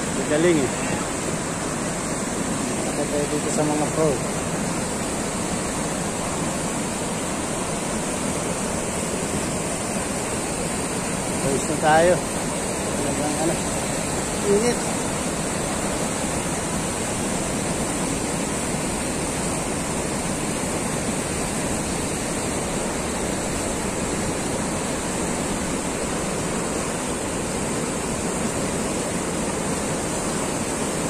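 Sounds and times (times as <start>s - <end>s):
whitewater rushing: 0.0s - 31.0s.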